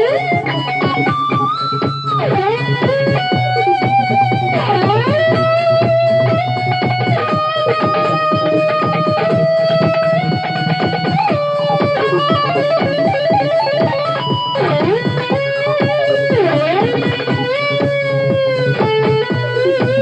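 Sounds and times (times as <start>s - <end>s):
backing track with bass: 0.0s - 20.0s
electric guitar lead melody: 0.0s - 20.0s.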